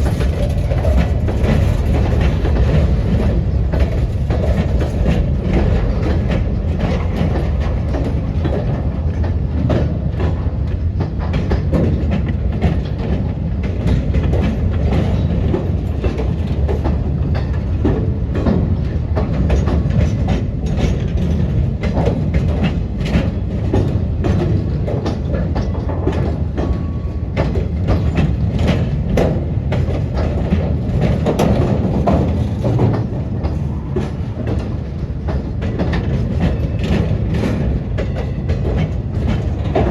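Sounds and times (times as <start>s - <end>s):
train rumbling past: 0.0s - 39.9s
wheels clattering over rails: 0.0s - 39.9s.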